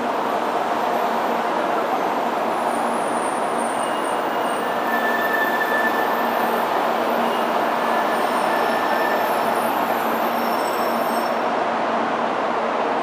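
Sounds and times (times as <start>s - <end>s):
train wheels hiss and rumble: 0.0s - 13.0s.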